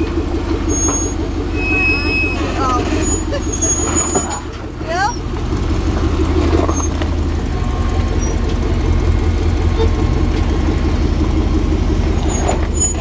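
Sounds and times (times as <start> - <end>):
engine idling low rumble: 0.0 - 13.0.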